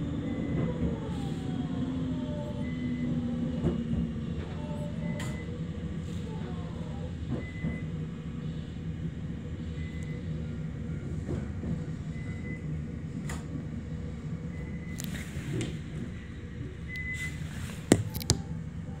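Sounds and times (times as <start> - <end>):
train running rumble: 0.0 - 17.6.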